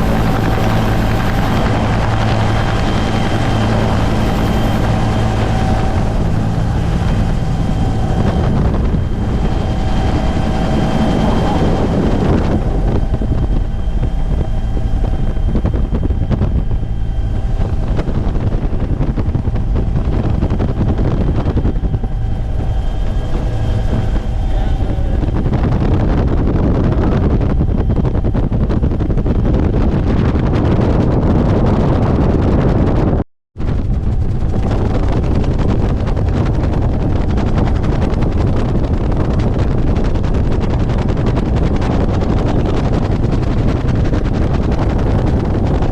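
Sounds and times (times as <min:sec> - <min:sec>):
helicopter engine and rotor: 0:00.0 - 0:45.9
wind buffeting microphone: 0:00.0 - 0:45.9.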